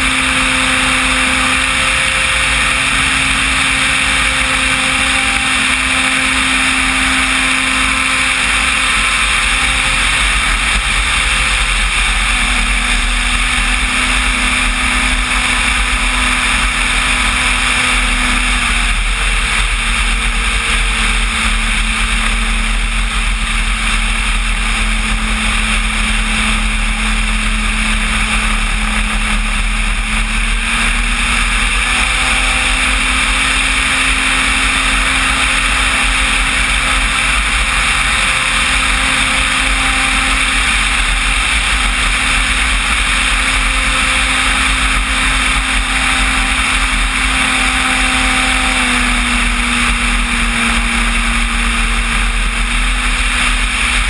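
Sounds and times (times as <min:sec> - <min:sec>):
model plane motor and propeller drone: 0:00.0 - 0:54.0
rush of air: 0:00.0 - 0:54.0.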